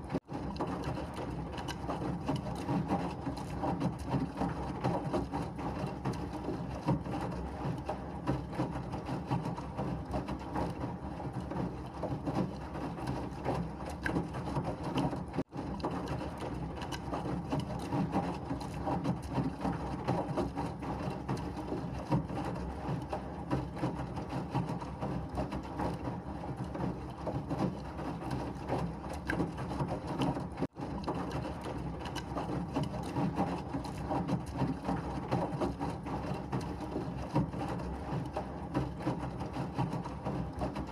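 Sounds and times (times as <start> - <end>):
washing machine churning: 0.0 - 40.9.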